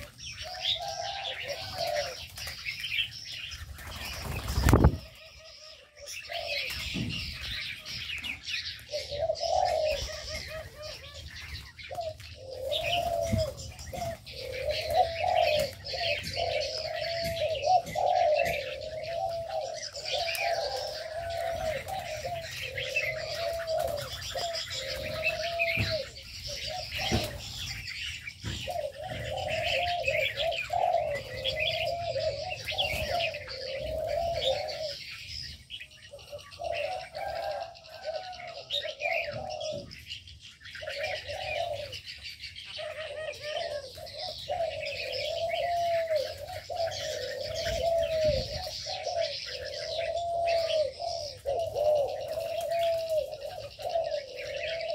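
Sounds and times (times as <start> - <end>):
doves cooing: 0.0 - 54.9
small birds chirping and twittering: 0.0 - 54.9.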